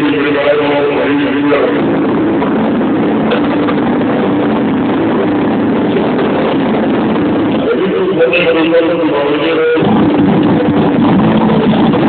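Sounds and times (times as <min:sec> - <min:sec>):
loud distorted party music: 0:00.0 - 0:12.0.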